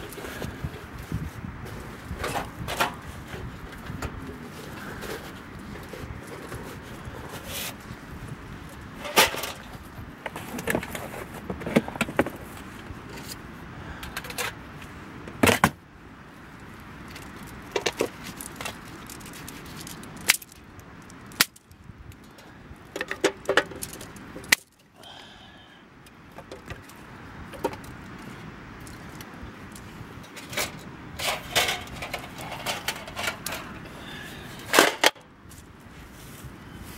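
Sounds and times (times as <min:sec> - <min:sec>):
steady background hiss: 0:00.0 - 0:36.9.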